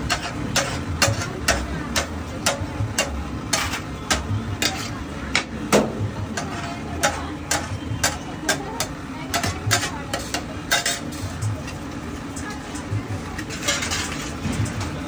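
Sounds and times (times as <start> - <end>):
metal spatula scraping flat griddle: 0.0 - 5.0, 6.2 - 11.8, 13.4 - 14.9.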